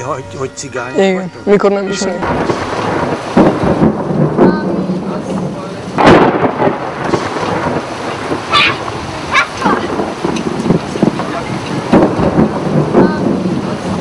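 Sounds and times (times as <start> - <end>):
heavy rain pouring: 0.0 - 14.0
loud thunder crack: 1.4 - 14.0.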